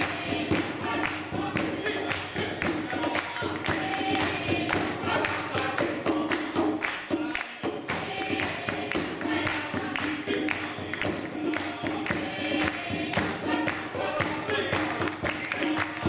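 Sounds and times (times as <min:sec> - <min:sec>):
group of voices singing: 0:00.0 - 0:16.0
sharp rhythmic hits: 0:00.0 - 0:16.0.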